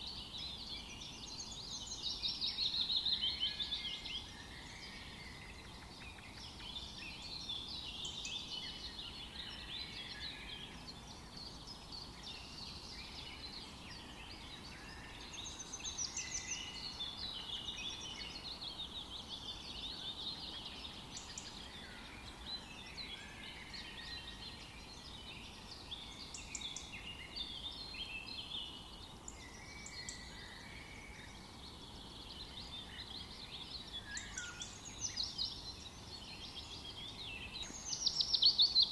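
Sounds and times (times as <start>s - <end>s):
faint steady hiss: 0.0s - 38.9s
songbirds chirping and trilling: 0.0s - 38.9s.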